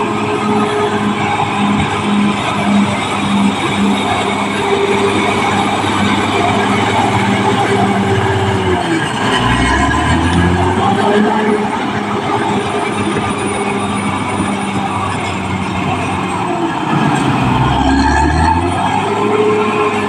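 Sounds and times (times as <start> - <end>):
bulldozer diesel engine under load: 0.0 - 20.0
steel tracks clattering and squealing: 0.0 - 20.0.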